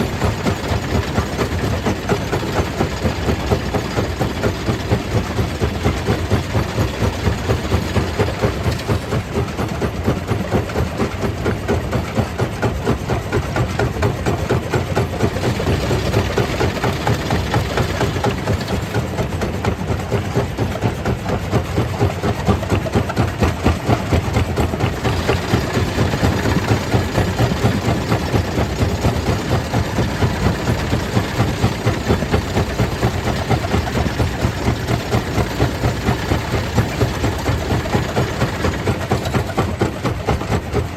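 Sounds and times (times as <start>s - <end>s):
stone crusher machine drone: 0.0s - 40.9s.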